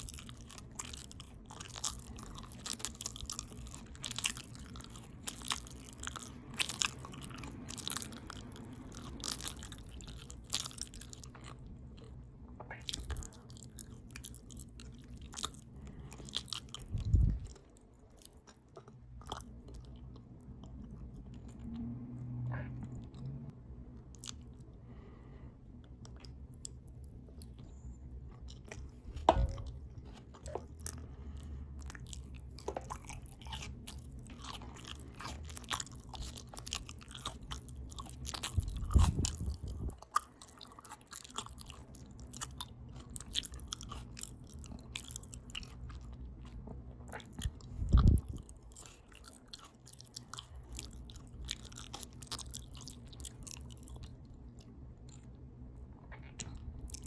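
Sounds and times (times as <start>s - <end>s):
open-mouth chewing: 0.0s - 57.0s.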